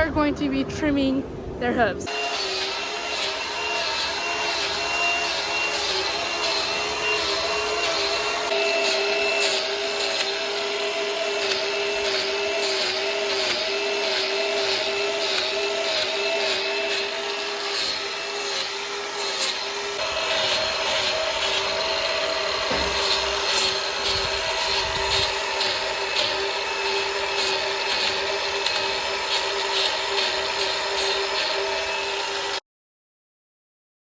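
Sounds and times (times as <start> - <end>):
motor running with whine: 2.1 - 32.6.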